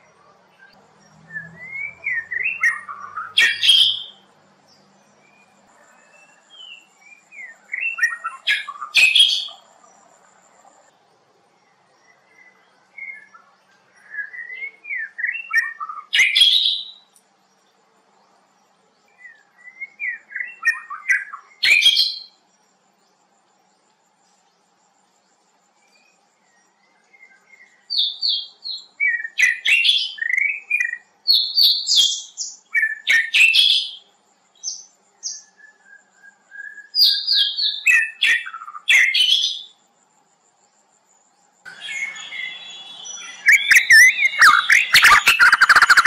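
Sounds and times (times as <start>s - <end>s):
songbird singing: 0.0s - 46.0s.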